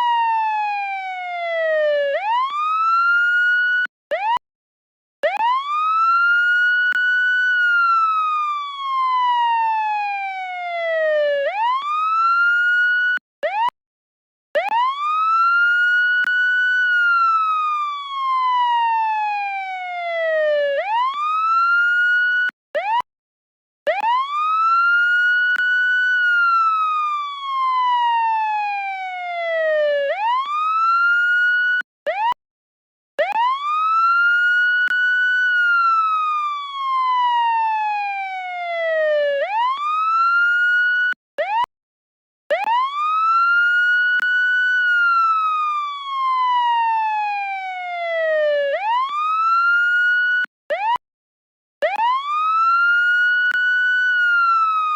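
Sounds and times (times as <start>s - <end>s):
police siren wailing: 0.0s - 4.4s, 5.2s - 13.7s, 14.6s - 23.0s, 23.9s - 32.4s, 33.2s - 41.7s, 42.5s - 51.0s, 51.8s - 54.9s.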